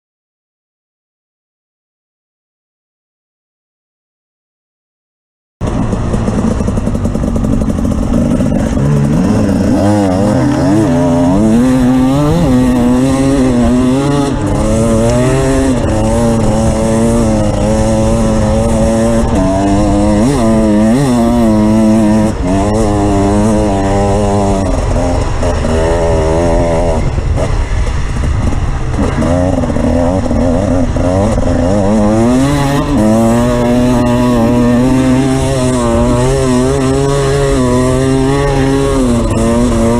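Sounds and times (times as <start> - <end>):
off-road vehicle engine revving: 5.6 - 39.9.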